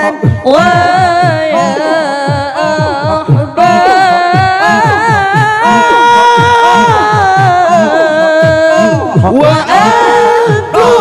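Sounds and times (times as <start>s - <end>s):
group low rhythmic chanting: 0.0s - 11.0s
solo voice singing ornamented line: 0.0s - 11.0s.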